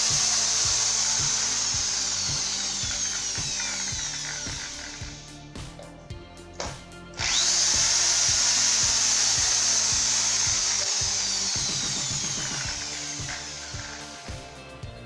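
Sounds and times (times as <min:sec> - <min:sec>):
electric drill running: 0:00.0 - 0:05.4, 0:07.2 - 0:14.7
background music with beat: 0:00.0 - 0:15.0.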